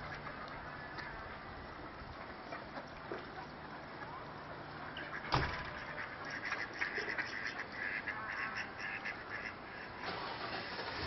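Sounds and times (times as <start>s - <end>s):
ducks quacking: 0.0s - 10.6s.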